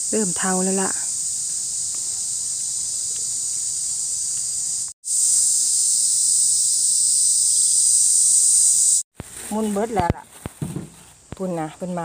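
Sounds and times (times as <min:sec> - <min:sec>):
insect chorus buzzing: 0:00.0 - 0:12.0.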